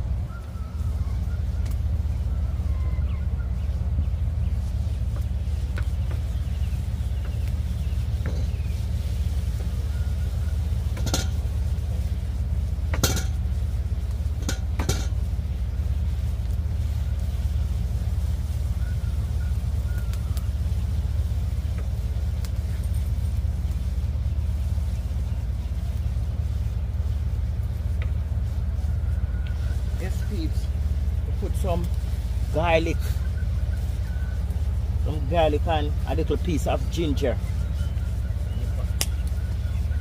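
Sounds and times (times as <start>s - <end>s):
low rumble: 0.0s - 40.0s.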